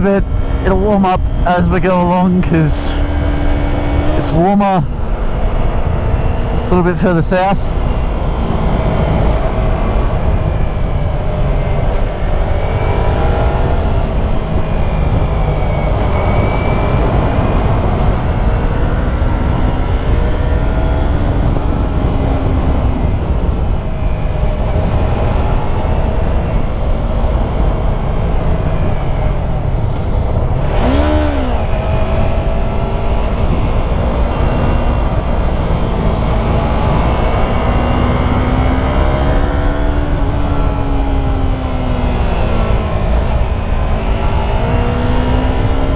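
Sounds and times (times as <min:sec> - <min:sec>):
heavy wind rumble: 0:00.0 - 0:45.9
motorcycle engine under way: 0:00.0 - 0:45.9.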